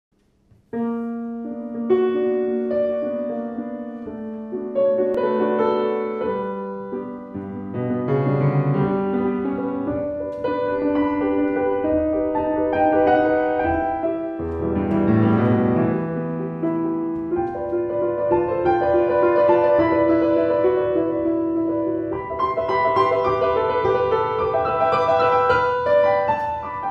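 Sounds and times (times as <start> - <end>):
solo piano classical piece: 0.2 - 26.9.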